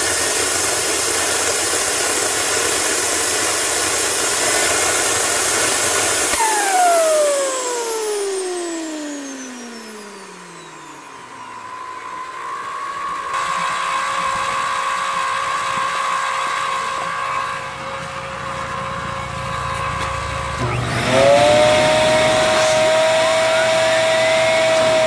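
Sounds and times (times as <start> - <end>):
turbine whine: 0.0 - 25.0.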